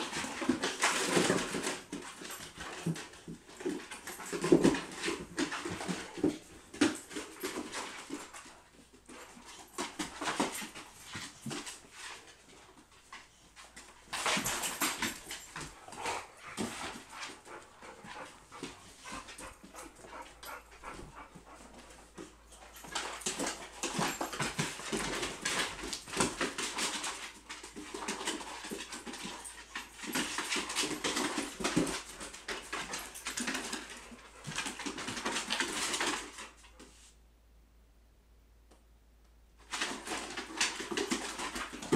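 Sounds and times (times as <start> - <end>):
dogs growling and play-fighting: 0.0 - 36.8, 39.6 - 41.9.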